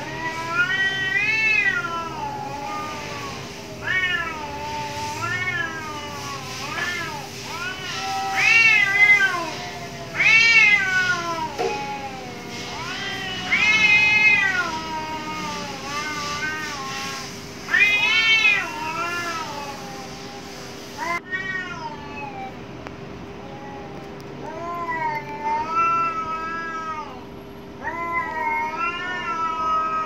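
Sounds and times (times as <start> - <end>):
cats yowling: 0.0 - 22.6, 23.4 - 30.0.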